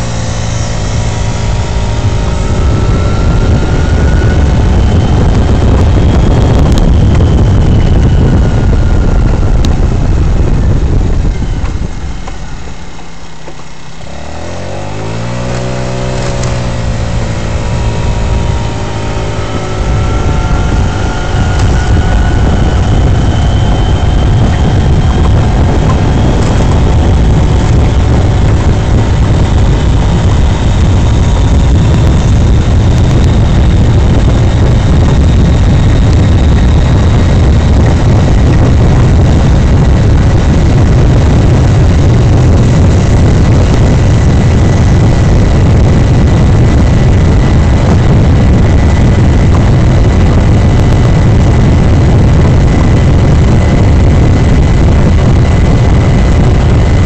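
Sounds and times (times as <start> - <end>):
rushing rumble: 0.0 - 57.0
scooter engine running: 0.0 - 57.0.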